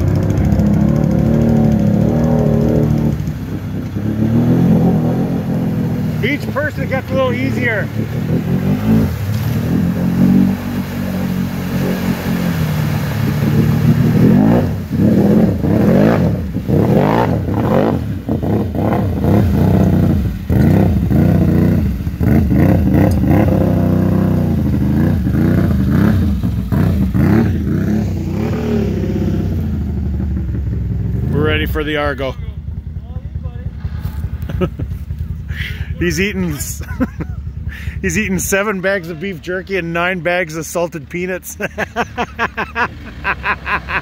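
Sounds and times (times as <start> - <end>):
atv engine revving: 0.0 - 44.0.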